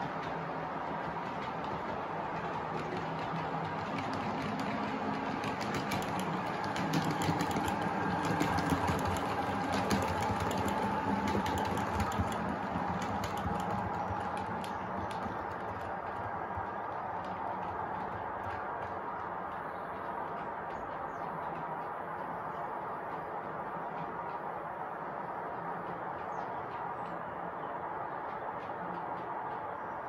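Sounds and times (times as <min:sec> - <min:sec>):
model train diesel engine drone: 0:00.0 - 0:30.0
wheels clicking over model track: 0:00.0 - 0:30.0.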